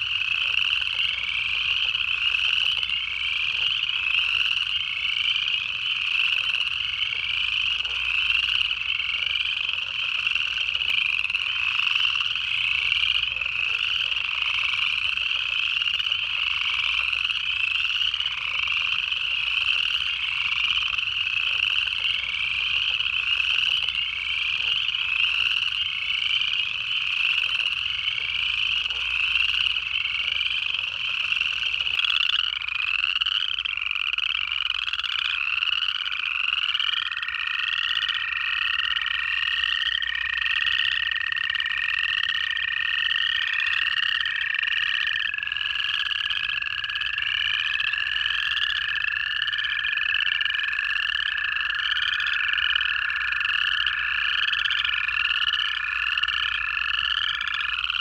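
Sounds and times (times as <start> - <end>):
chorus of frogs trilling: 0.0 - 58.0.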